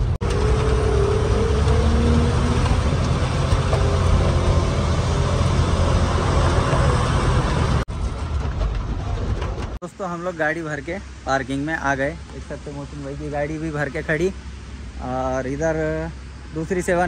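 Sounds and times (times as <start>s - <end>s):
road noise: 0.0s - 17.0s
truck engine rumbling: 0.0s - 17.0s.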